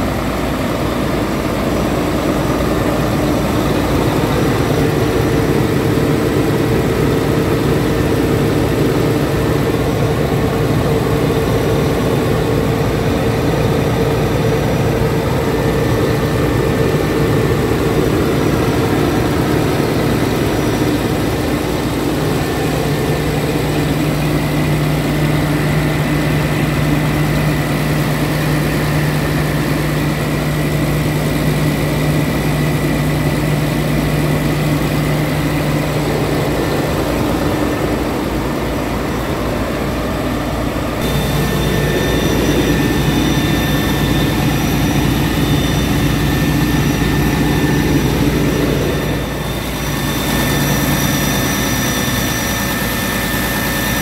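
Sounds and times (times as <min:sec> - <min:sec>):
diesel engine idling: 0:00.0 - 0:53.1.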